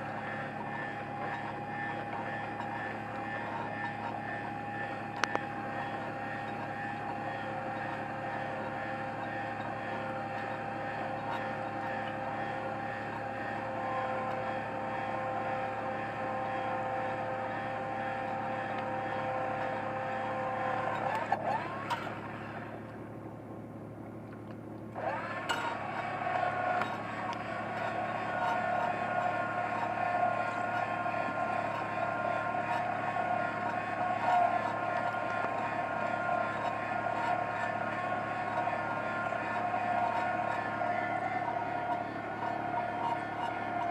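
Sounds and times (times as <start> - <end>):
boat motor whining: 0.0 - 43.9.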